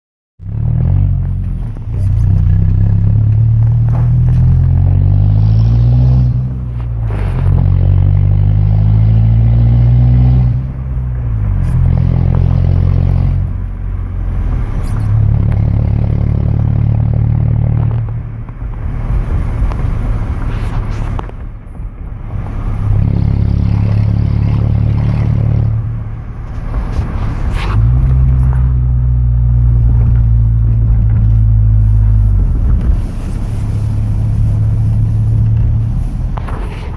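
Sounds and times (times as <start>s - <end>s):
loud engine exhaust revving: 0.4s - 18.4s, 22.3s - 36.7s.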